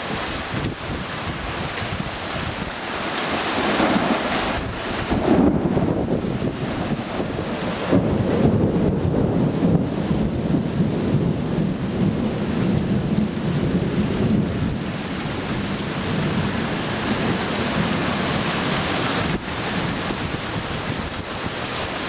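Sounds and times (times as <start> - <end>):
heavy rain pouring: 0.0 - 22.0
thunder rumbling: 3.5 - 21.6.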